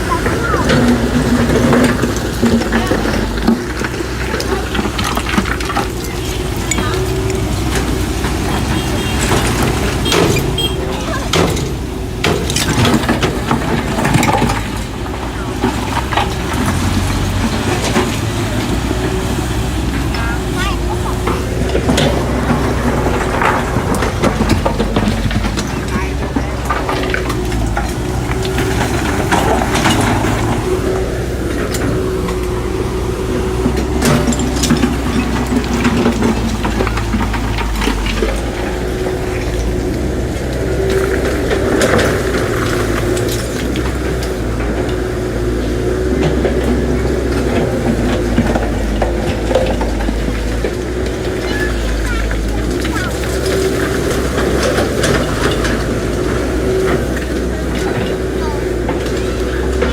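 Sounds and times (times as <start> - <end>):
engine running: 0.0 - 59.9
sharp knocks and clanks: 0.0 - 59.9.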